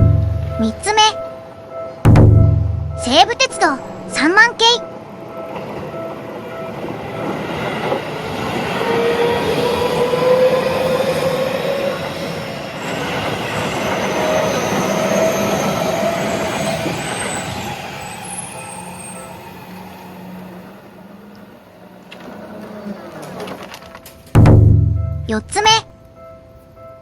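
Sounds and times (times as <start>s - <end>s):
electric train passing: 0.0s - 2.0s, 2.7s - 24.2s.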